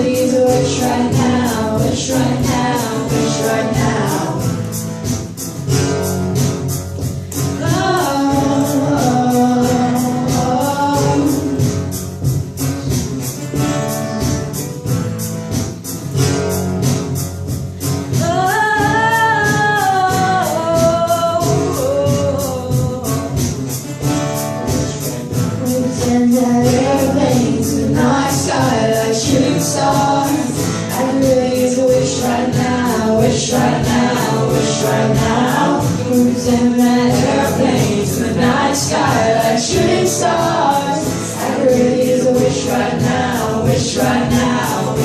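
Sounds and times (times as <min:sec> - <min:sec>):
live band backing with beat: 0:00.0 - 0:45.0.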